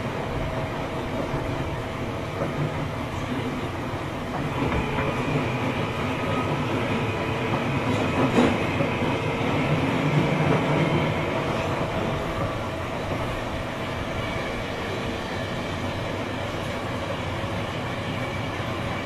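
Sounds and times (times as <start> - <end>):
rail click: 0.0 - 19.0
train rumbling in tunnel: 0.0 - 19.0.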